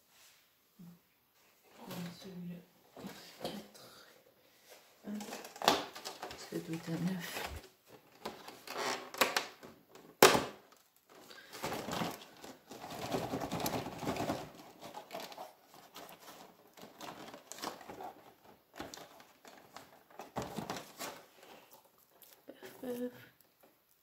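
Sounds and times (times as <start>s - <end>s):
packaging rustling and crinkling: 4.7s - 24.0s.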